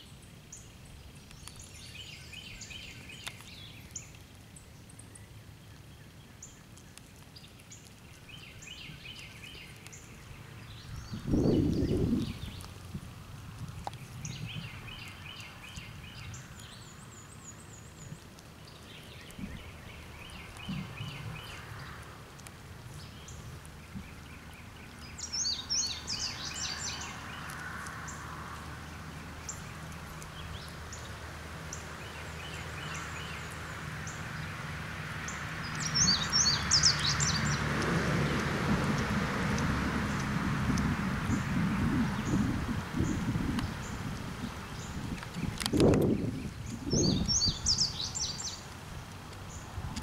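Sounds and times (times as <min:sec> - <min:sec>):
songbirds trilling and chirping: 0:00.0 - 0:50.0.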